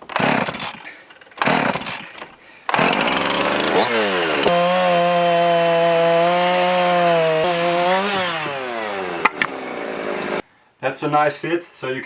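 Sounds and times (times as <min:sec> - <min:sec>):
chainsaw cutting wood: 0:00.0 - 0:10.4.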